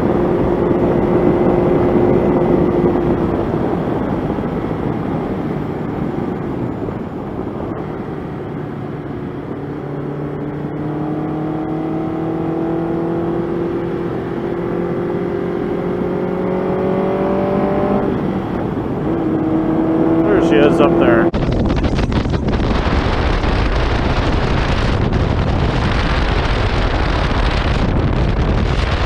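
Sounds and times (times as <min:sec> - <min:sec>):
motorcycle engine under way: 0:00.0 - 0:29.0
wind rush: 0:00.0 - 0:29.0.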